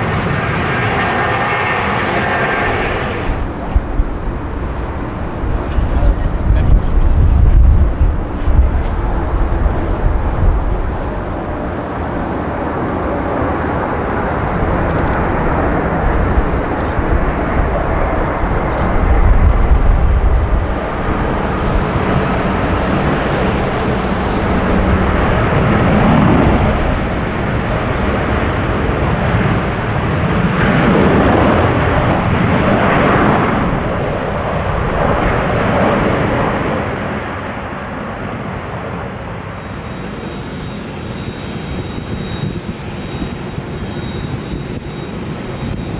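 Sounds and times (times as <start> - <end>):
jet airliner rumble: 0.0 - 45.9.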